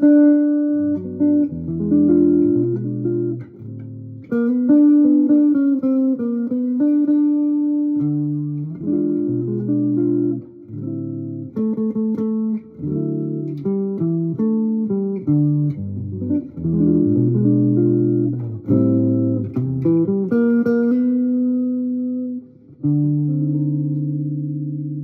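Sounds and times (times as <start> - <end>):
solo guitar chord melody: 0.0 - 25.0.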